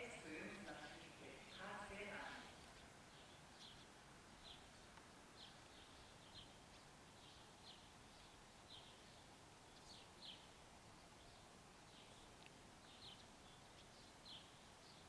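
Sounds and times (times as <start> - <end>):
outdoor background hiss: 0.0 - 15.0
faint bird chirps: 1.4 - 15.0.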